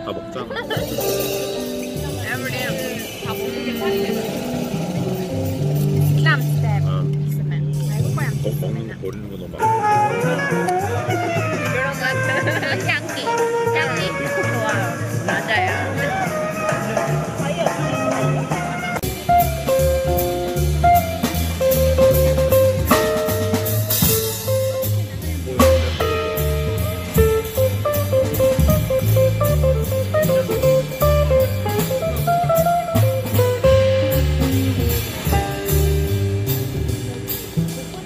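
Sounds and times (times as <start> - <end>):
jazz combo playing: 0.0 - 38.0
upright bass walking: 0.0 - 38.0
cymbals keeping time: 0.8 - 38.0.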